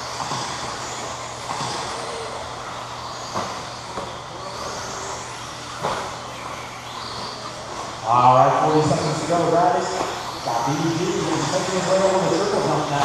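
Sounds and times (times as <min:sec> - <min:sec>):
electric motors whining: 0:00.0 - 0:13.0
tyres on dirt track: 0:00.0 - 0:13.0.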